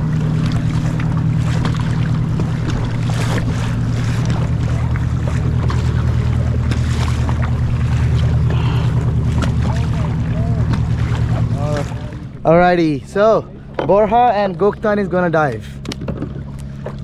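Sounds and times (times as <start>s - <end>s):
motorboat engine running: 0.0s - 17.0s
water splashing: 0.0s - 17.0s
wind: 0.0s - 17.0s.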